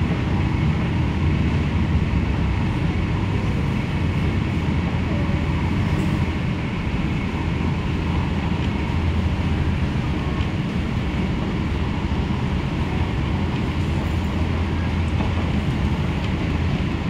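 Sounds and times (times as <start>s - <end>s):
train running noise from wheels and rails: 0.0s - 17.0s.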